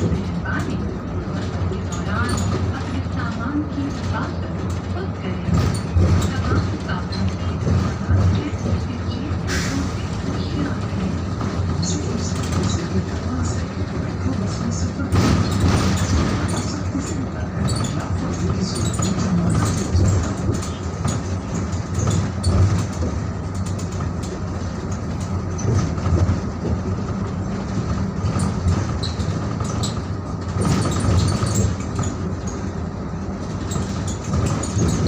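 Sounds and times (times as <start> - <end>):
bus engine and road rumble: 0.0 - 35.0
rattles and clicks: 0.0 - 35.0.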